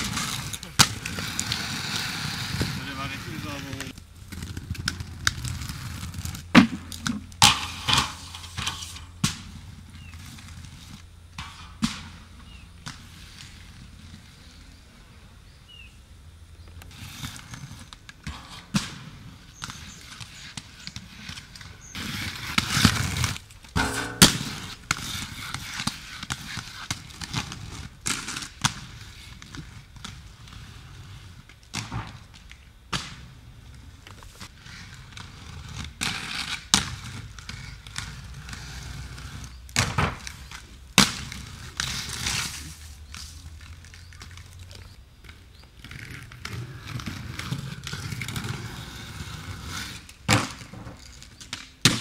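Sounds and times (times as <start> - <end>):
skates grinding along concrete ledge: 0.0 - 15.4, 16.8 - 52.0
inline skates rolling on paving: 0.0 - 23.8, 24.4 - 52.0.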